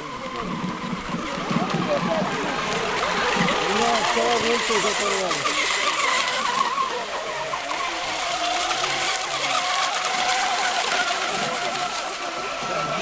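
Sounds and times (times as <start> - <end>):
model boat motors whining: 0.0 - 13.0.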